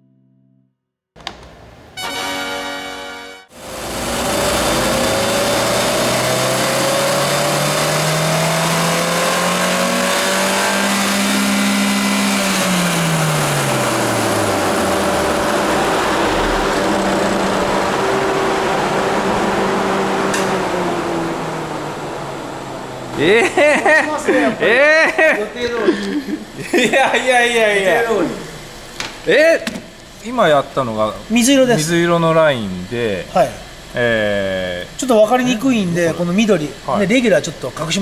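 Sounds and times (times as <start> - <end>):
loud steady rush of noise: 1.3 - 38.0
car engine at full throttle: 3.5 - 25.2, 27.5 - 29.1, 29.8 - 38.0.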